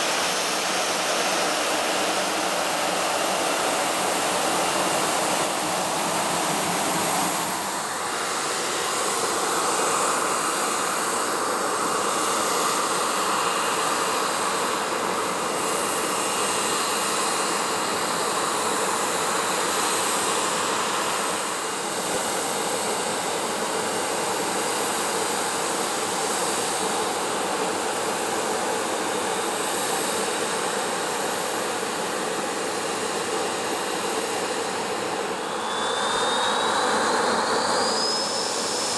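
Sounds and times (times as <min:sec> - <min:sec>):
faint jet whine: 0:00.0 - 0:38.9
jet engines running: 0:00.0 - 0:38.9.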